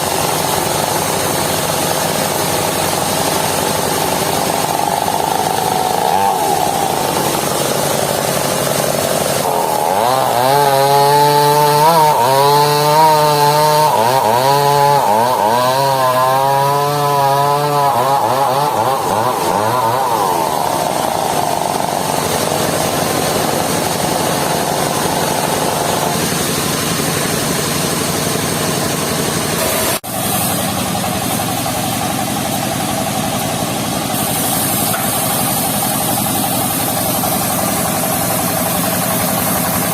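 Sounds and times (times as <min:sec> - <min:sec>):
engine-driven circular saw running: 0:00.0 - 0:39.9
saw blade whine cutting log: 0:00.0 - 0:39.9.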